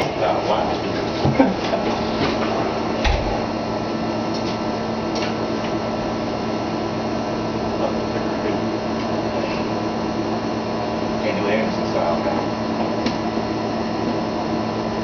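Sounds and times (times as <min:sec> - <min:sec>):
machine hum and fan noise: 0:00.0 - 0:15.0.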